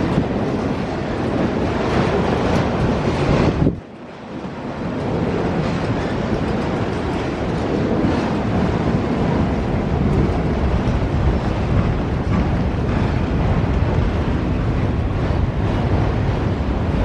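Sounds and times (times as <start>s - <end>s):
train wheels on rails: 0.0s - 17.0s
wind on microphone: 0.0s - 17.0s.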